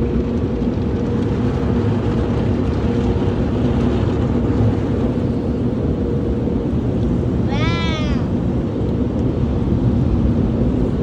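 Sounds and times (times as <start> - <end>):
car wash machinery running: 0.0 - 11.0.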